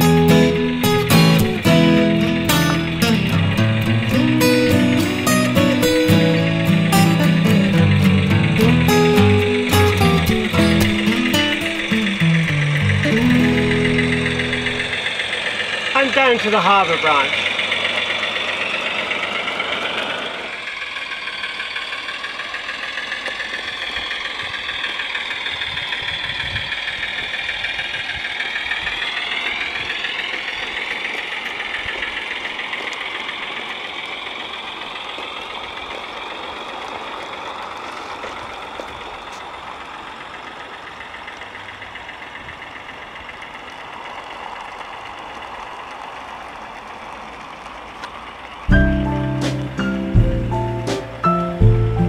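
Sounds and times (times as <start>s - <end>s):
model diesel engine sound from speaker: 0.0s - 52.0s.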